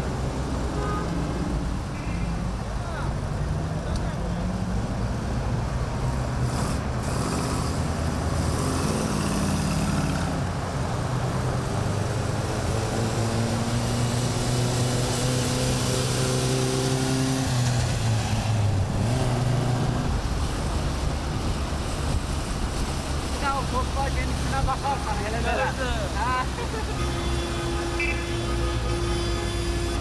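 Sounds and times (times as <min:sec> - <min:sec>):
classic car engines rumbling: 0:00.0 - 0:30.0.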